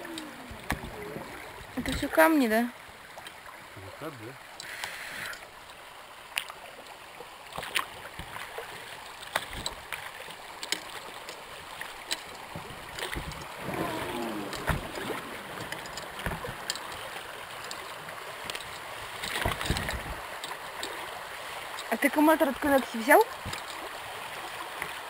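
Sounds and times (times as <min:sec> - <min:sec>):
river rippling over stones: 0:00.0 - 0:25.0.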